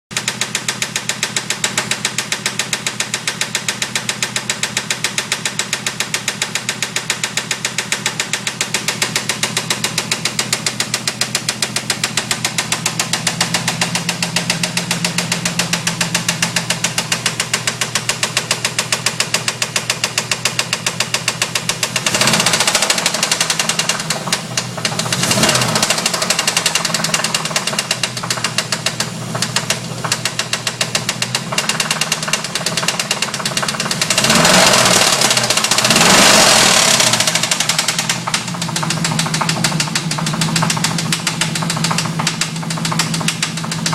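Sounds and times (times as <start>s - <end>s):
engine running with knock: 0.1s - 43.9s
engine revving: 6.6s - 43.9s.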